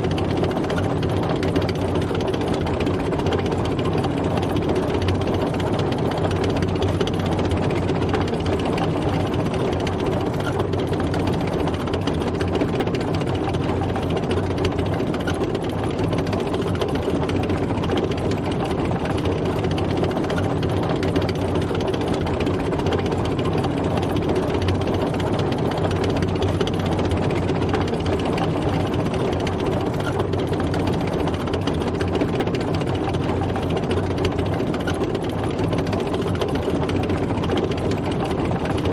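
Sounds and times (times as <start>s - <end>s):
tank engine running: 0.0s - 38.9s.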